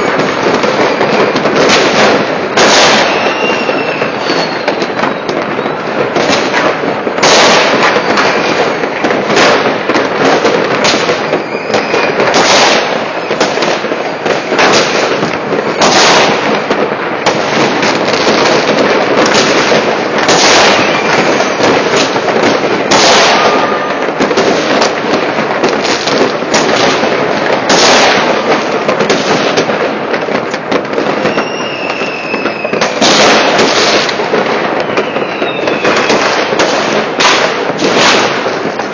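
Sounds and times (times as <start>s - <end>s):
firework whistles: 0.0s - 29.7s, 30.9s - 38.9s
firecracker crackle: 0.0s - 38.9s
fireworks bangs: 0.0s - 38.9s.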